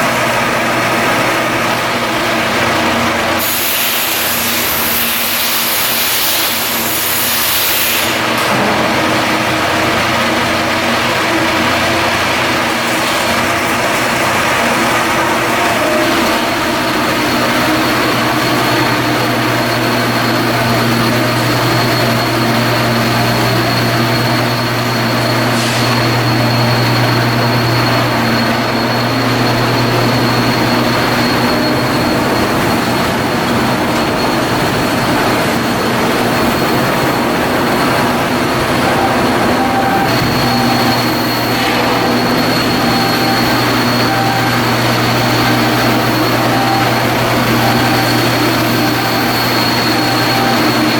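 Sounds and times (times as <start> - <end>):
high whine: 0.0 - 50.9
machinery low drone: 8.3 - 50.9.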